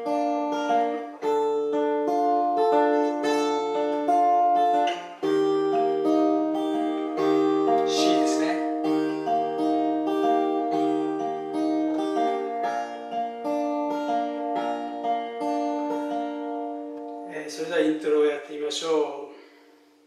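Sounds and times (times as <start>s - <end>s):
fingerpicked acoustic guitar: 0.0s - 20.0s.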